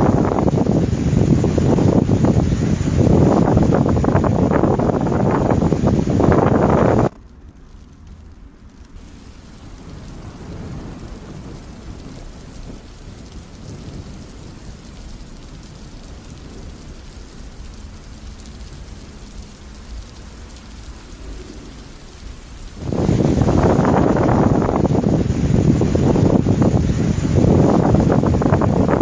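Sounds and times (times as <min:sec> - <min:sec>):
gusting wind-like noise: 0:00.0 - 0:29.0
steady rain: 0:00.0 - 0:29.0
thunder rumbling: 0:00.0 - 0:29.0.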